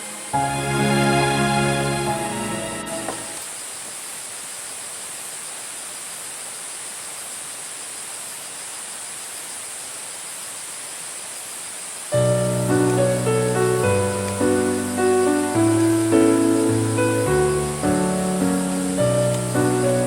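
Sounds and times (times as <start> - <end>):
even hiss: 0.0 - 20.0
high-pitched insect chorus: 0.0 - 20.0.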